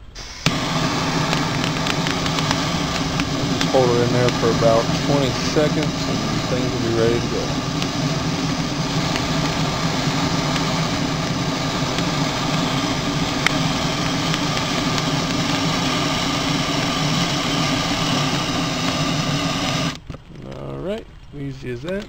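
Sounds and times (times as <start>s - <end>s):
gas torch hissing: 0.0s - 20.1s.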